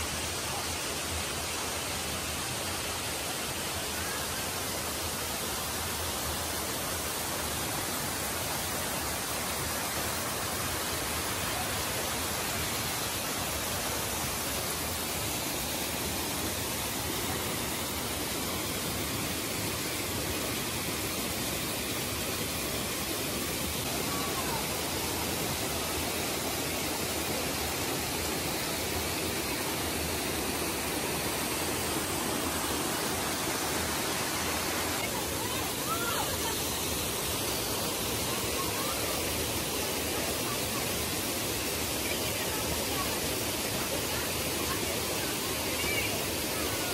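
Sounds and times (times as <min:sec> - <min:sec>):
water cascading over rocks: 0:00.0 - 0:46.9.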